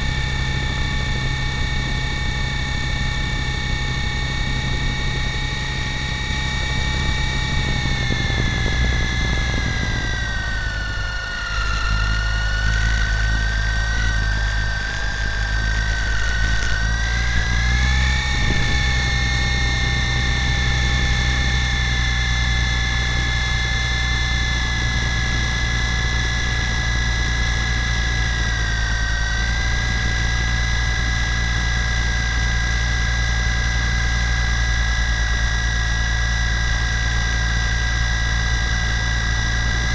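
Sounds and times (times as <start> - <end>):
heavy low rumble: 0.0 - 33.7
helicopter motors whining: 0.0 - 39.9.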